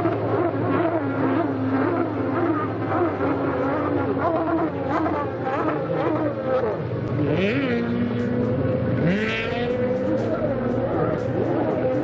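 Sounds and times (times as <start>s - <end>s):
jet ski engines running hard: 0.0s - 12.0s.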